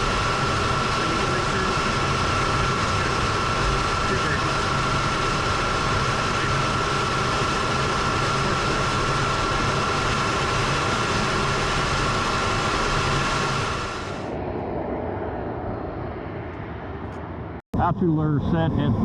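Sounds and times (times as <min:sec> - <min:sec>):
jet engines whining and hissing: 0:00.0 - 0:19.0.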